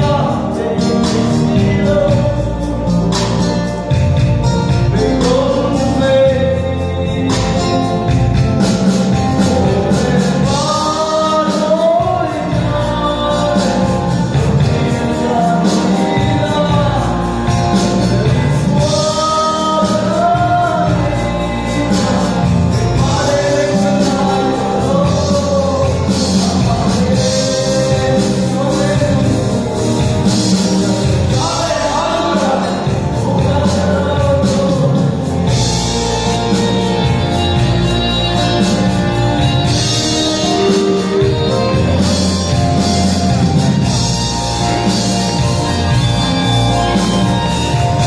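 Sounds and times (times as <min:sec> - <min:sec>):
amplified band playing: 0:00.0 - 0:48.0
person singing: 0:00.0 - 0:48.0.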